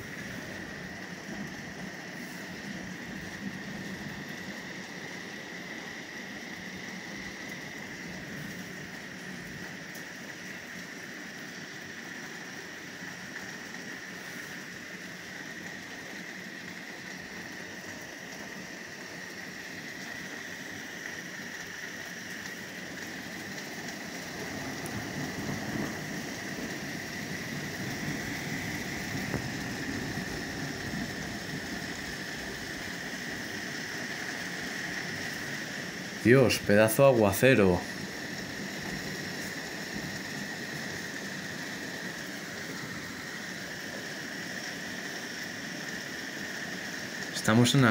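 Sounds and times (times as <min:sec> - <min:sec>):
heavy rain downpour: 0:00.0 - 0:47.9.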